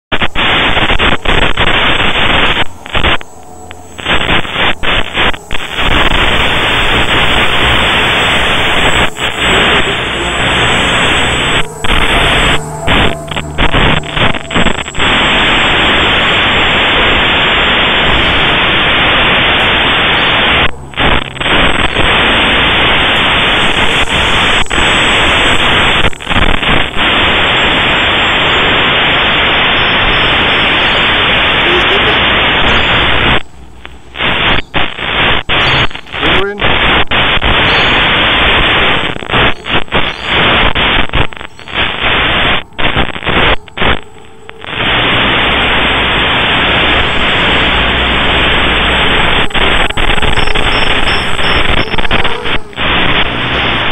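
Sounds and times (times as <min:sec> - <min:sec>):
loud static hiss: 0:00.0 - 0:53.9.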